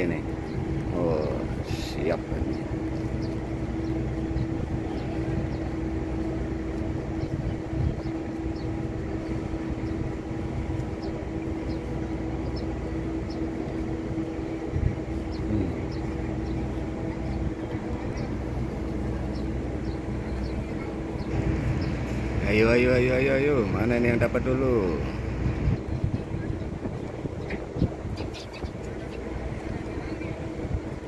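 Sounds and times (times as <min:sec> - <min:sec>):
ship machinery rumble and hum: 0:00.0 - 0:31.0.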